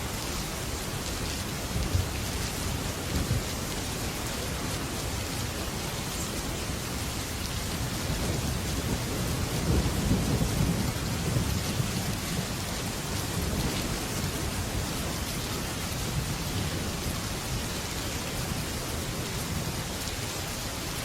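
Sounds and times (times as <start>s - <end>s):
heavy rain on a metal roof: 0.0s - 21.0s
low rumble of thunder: 0.2s - 20.2s.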